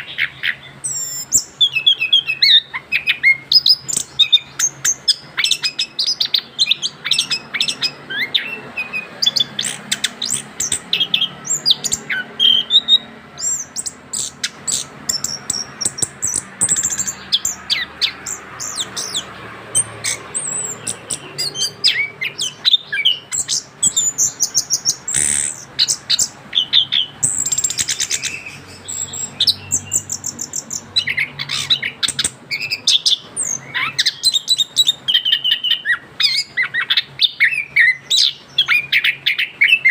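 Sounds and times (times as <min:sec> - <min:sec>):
thrush singing varied whistled phrases: 0:00.0 - 0:39.9.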